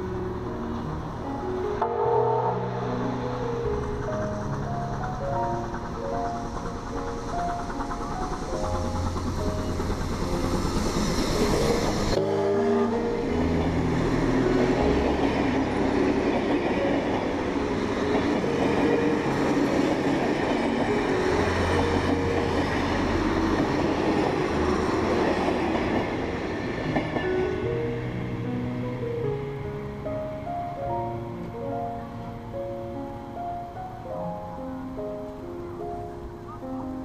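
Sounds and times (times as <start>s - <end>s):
background music with held notes: 0.0s - 37.0s
steam train passing on rails: 0.0s - 37.0s.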